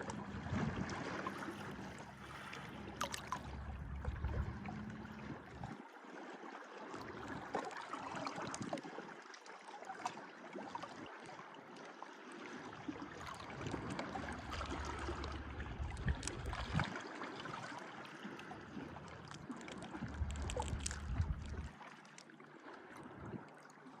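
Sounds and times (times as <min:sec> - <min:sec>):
small waves lapping at shore: 0:00.0 - 0:24.0.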